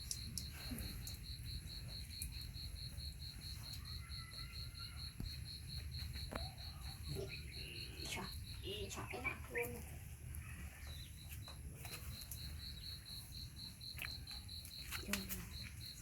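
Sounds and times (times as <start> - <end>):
cricket chirping: 0.0 - 9.9, 10.8 - 16.0.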